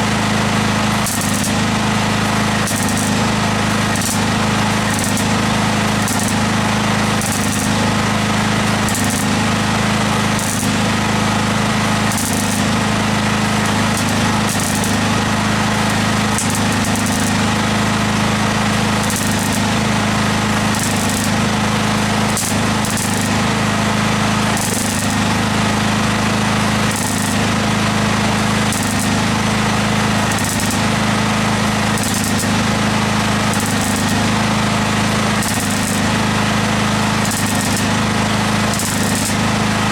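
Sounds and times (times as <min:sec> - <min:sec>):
electric welder welding: 0:00.0 - 0:39.9.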